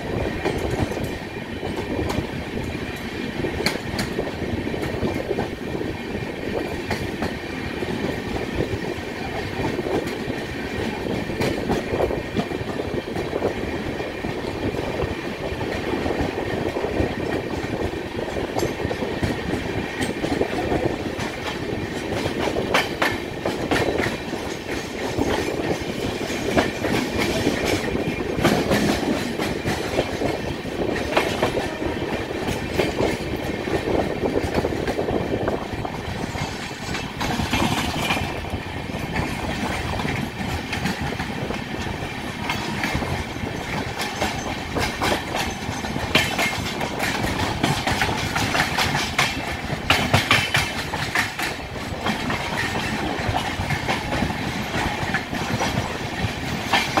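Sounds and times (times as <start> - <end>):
train wheels rumbling on rail: 0.0 - 57.0
wheels clacking over rail joints: 0.1 - 57.0.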